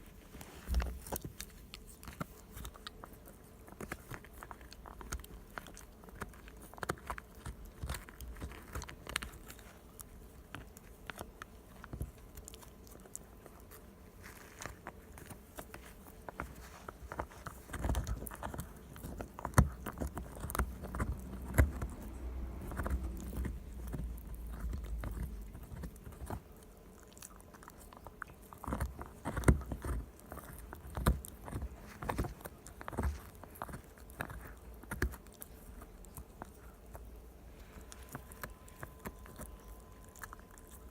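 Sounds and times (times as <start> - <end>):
dog gnawing and crunching chew: 0.0 - 40.9.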